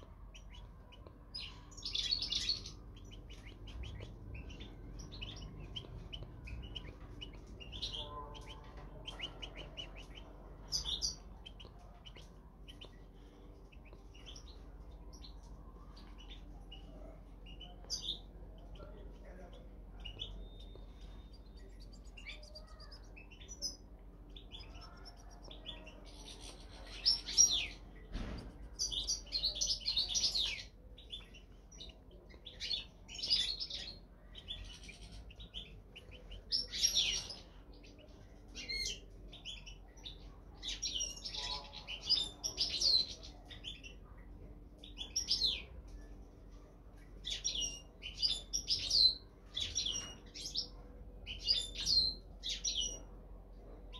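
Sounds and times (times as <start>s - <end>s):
goldfinches chirping and singing: 0.3s - 28.0s, 28.8s - 44.0s, 47.2s - 53.1s.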